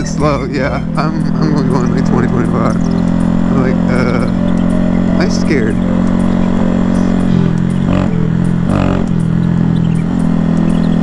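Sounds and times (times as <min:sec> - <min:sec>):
gravel ticking under tyres: 0:00.0 - 0:11.0
motorcycle engine running: 0:00.0 - 0:11.0.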